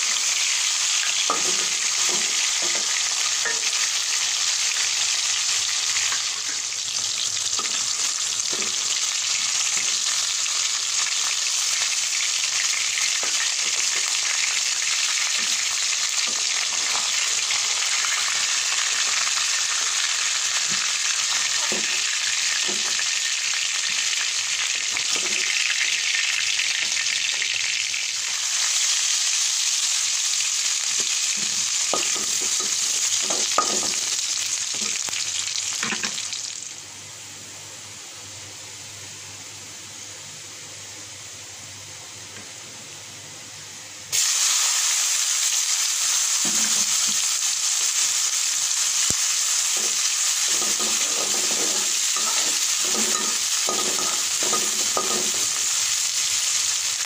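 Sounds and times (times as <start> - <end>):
oil sizzling in a wok: 0.0 - 57.0.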